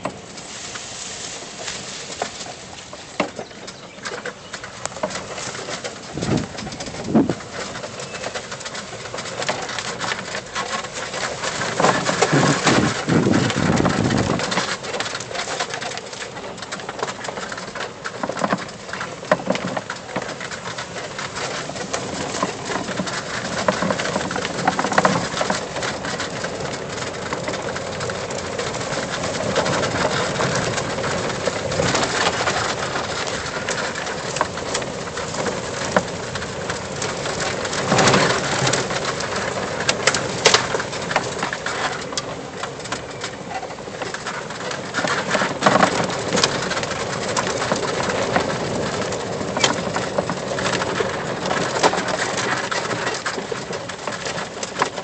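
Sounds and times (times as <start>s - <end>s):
rattles and knocks over bumps: 0.0s - 55.0s
rumble of tyres and running gear: 0.0s - 55.0s.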